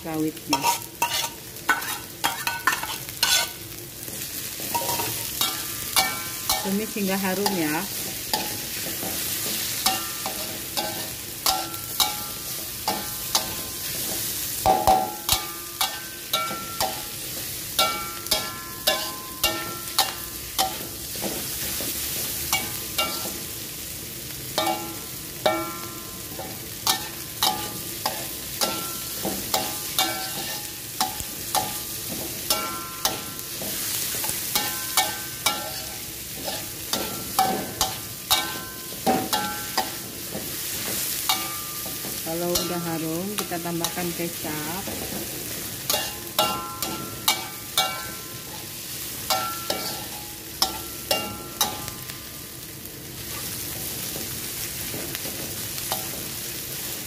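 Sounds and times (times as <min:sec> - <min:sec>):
food sizzling in hot oil: 0:00.0 - 0:57.0
metal spatula scraping wok: 0:00.5 - 0:03.6, 0:04.2 - 0:23.5, 0:24.6 - 0:52.0.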